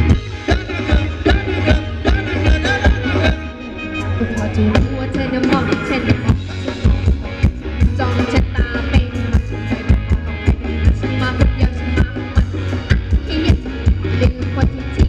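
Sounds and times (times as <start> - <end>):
drum kit beat: 0.0 - 15.0
live band dance music: 0.0 - 15.0.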